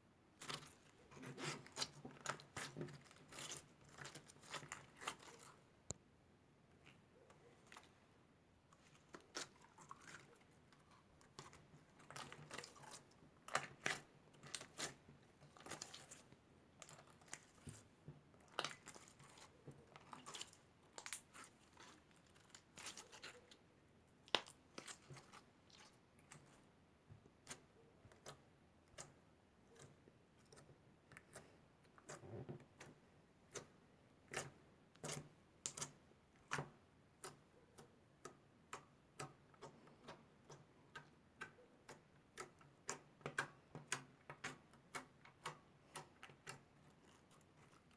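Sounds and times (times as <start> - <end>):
slime squishing with clicks: 0.3 - 6.1, 6.7 - 47.9.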